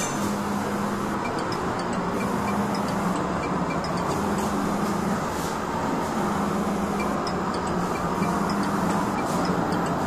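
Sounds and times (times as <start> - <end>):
blower fan hum: 0.0 - 10.0
burner stove roaring: 0.0 - 10.0.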